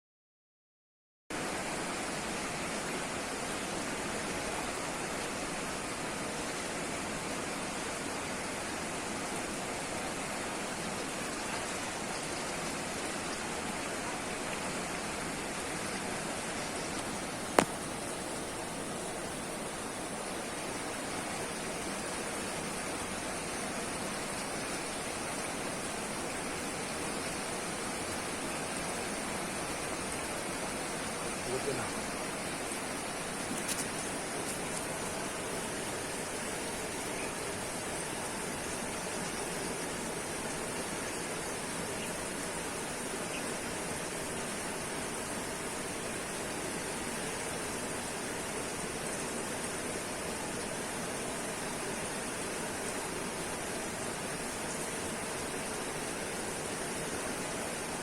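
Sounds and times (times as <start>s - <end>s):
river water rushing: 1.4s - 58.0s.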